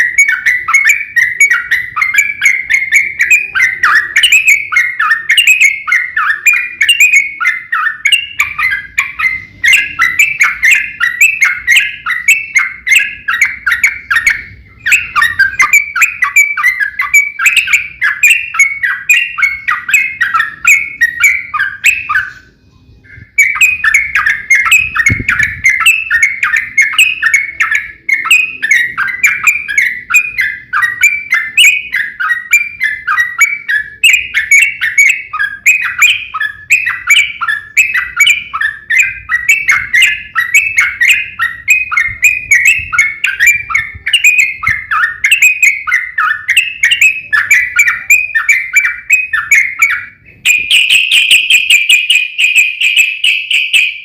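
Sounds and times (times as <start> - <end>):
bulbul chattering song: 0.0 - 54.0.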